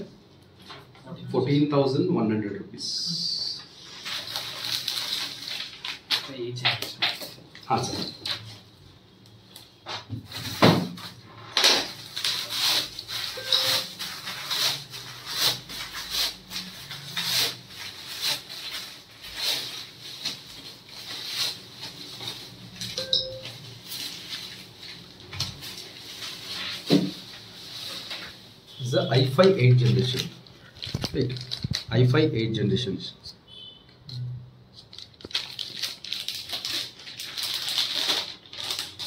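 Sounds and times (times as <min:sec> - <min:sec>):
plastic crinkling and rustling: 0:03.8 - 0:08.8, 0:09.5 - 0:32.0, 0:34.7 - 0:39.0.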